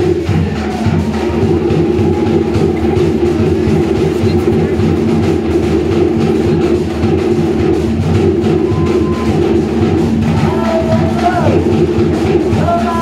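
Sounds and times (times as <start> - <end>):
fast slit-log and skin drumming: 0.0 - 13.0.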